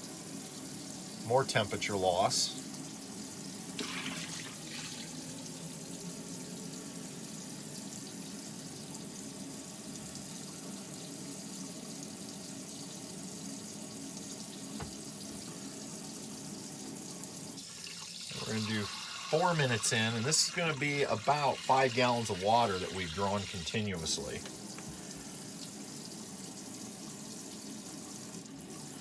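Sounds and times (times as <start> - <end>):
faucet running: 0.0 - 29.0.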